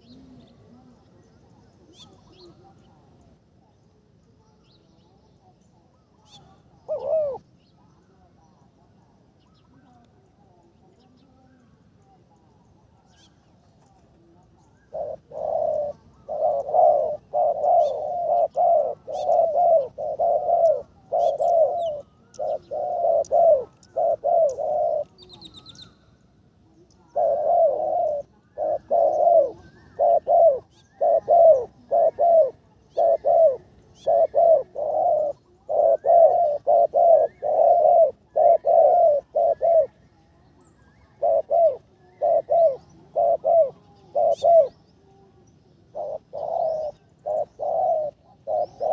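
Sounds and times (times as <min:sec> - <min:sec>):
dove cooing: 0:00.0 - 0:01.0, 0:05.8 - 0:10.6, 0:12.7 - 0:26.0, 0:26.8 - 0:48.9.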